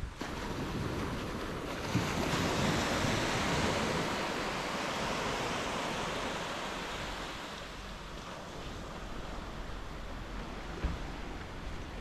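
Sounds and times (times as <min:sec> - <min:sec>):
small waves washing on sand: 0:00.0 - 0:12.0
wind on microphone: 0:00.0 - 0:12.0.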